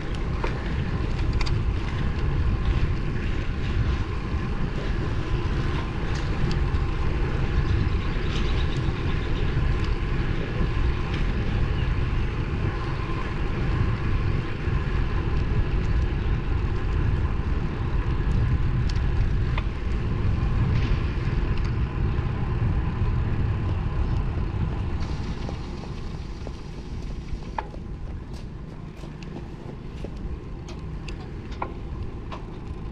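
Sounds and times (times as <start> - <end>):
bike road noise: 0.0 - 32.9
wind rushing: 0.0 - 32.9.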